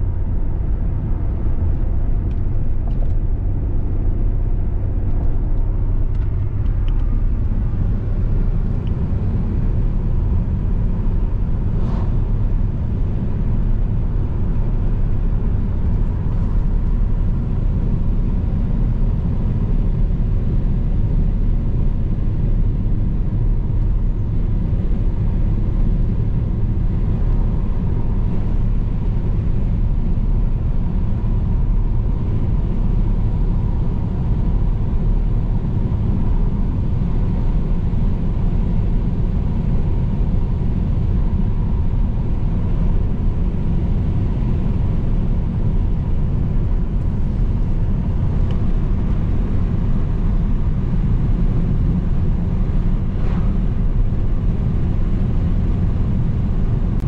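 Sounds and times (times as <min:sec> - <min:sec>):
car driving: 0:00.0 - 0:57.0.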